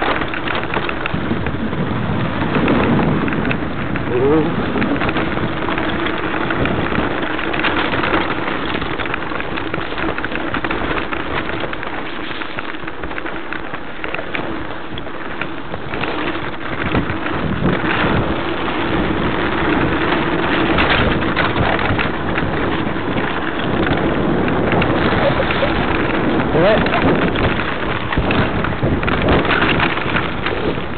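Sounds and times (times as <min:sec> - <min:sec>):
bike rattling over bumps: 0:00.0 - 0:30.9
tyres crunching over gravel: 0:00.0 - 0:30.9
wind rushing over microphone: 0:00.0 - 0:30.9.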